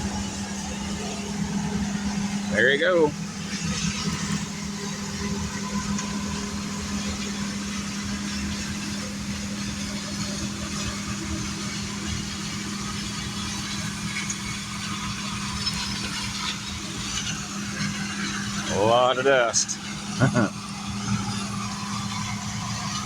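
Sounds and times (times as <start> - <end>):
combine harvester engine humming: 0.0 - 23.0.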